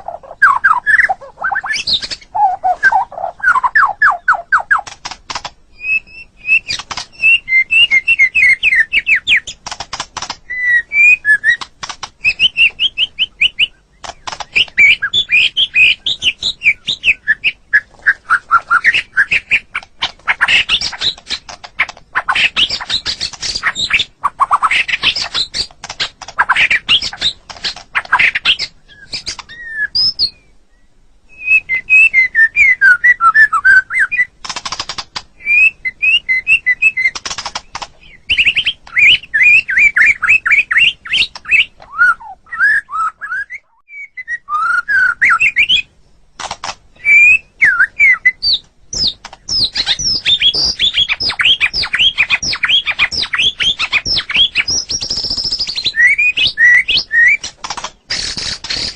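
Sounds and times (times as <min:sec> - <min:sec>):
songbird singing varied song: 0:00.0 - 0:46.1, 0:46.9 - 0:58.9.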